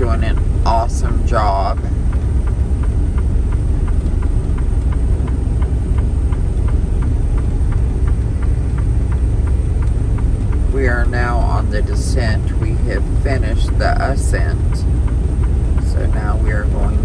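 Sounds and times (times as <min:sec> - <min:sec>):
light ticking: 0:00.0 - 0:17.0
truck engine and road rumble: 0:00.0 - 0:17.0.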